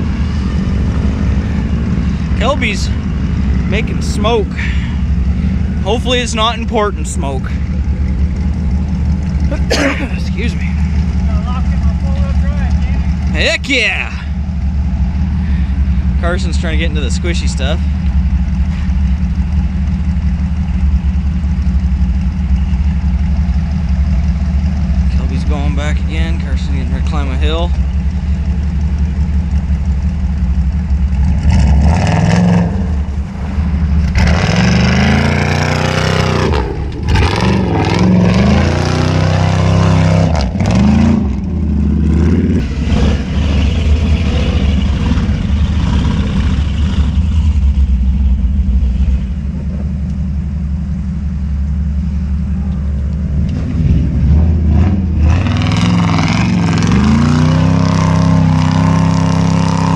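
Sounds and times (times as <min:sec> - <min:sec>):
engine idling: 0:00.0 - 0:59.9
truck engine revving: 0:00.0 - 0:59.9.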